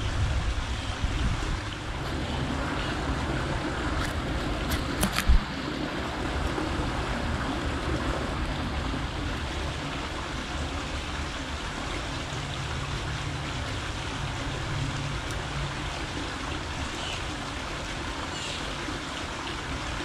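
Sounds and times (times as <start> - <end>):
rushing noise with low rumble: 0.0 - 18.2.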